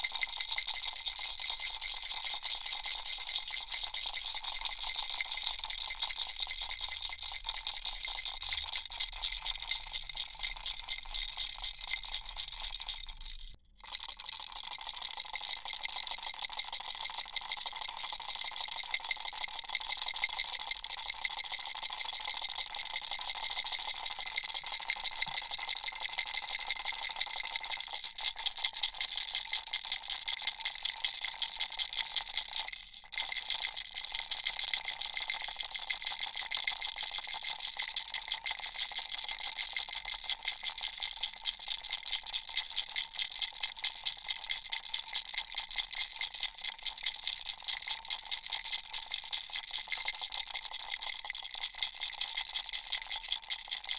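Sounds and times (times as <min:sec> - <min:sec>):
baby rattle shaken: 0:00.0 - 0:53.9.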